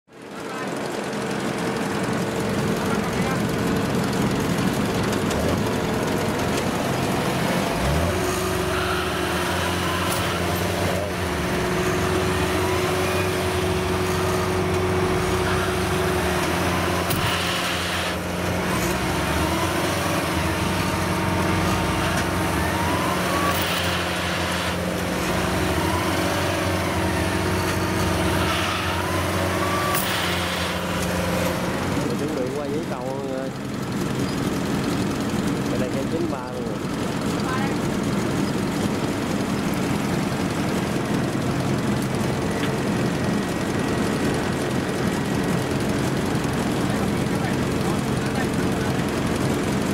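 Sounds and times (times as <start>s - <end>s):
diesel engine running: 0.1s - 49.9s.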